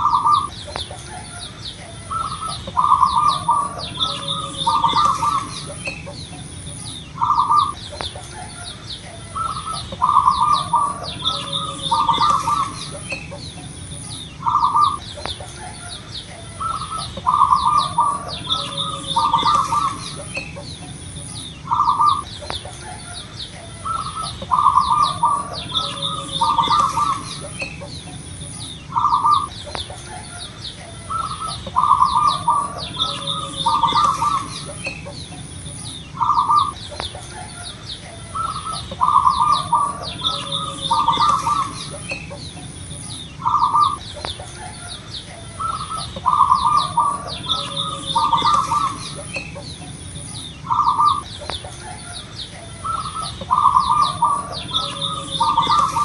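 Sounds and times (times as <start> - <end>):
dove cooing: 0.0 - 56.0
small birds chirping: 0.0 - 56.0.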